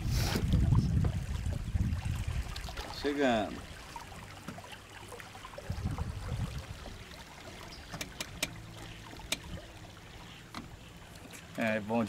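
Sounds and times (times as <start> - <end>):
water against boat: 0.0 - 12.0.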